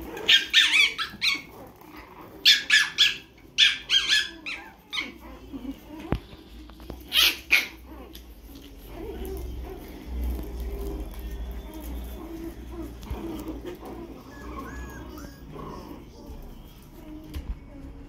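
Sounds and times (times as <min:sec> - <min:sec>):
puppies yipping: 0:00.0 - 0:18.0.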